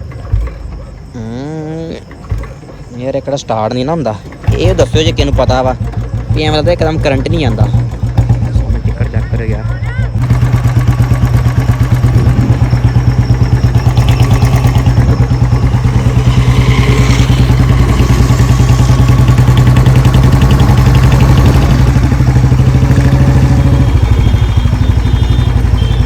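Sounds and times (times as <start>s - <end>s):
motorcycle engine running: 3.8s - 26.0s.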